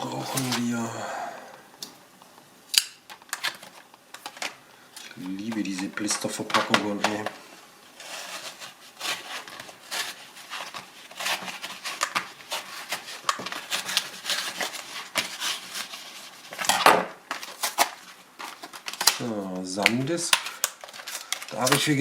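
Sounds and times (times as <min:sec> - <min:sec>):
plastic blister packaging crackling: 0:00.0 - 0:00.8, 0:01.8 - 0:22.0.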